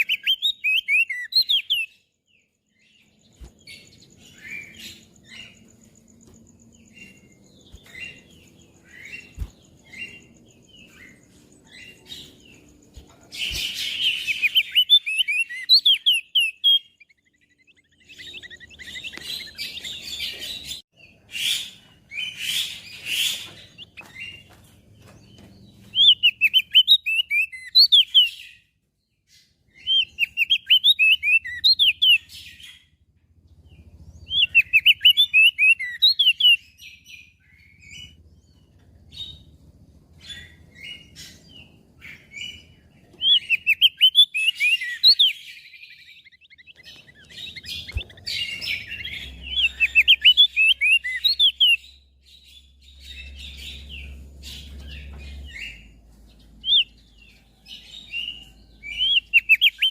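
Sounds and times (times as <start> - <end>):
single bird chirps: 0.0 - 28.6, 40.2 - 59.9.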